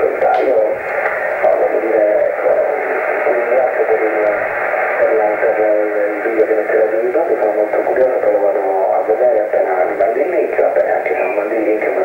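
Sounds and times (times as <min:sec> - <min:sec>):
static hiss: 0:00.0 - 0:12.0
voice over radio speaker: 0:00.0 - 0:12.0.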